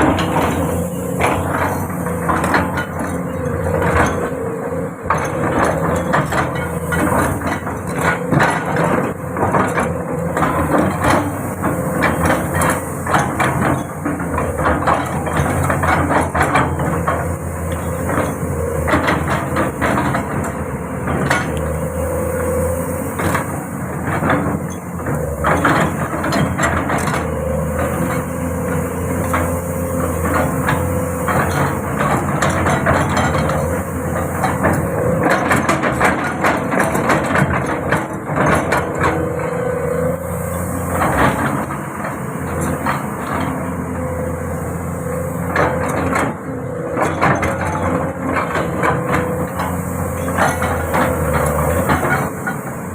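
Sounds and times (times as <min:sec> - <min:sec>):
metallic clanks and knocks: 0:00.0 - 0:04.4, 0:05.0 - 0:21.9, 0:23.1 - 0:43.8, 0:45.5 - 0:52.9
excavator engine running: 0:00.0 - 0:52.9.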